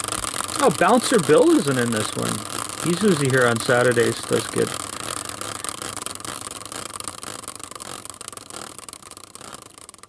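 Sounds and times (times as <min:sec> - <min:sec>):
prize wheel ticking: 0:00.0 - 0:10.0.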